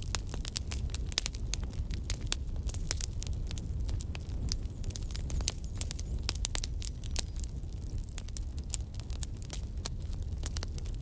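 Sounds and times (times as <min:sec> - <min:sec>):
fire low rumble: 0:00.0 - 0:11.0
logs crackling and popping: 0:00.0 - 0:11.0.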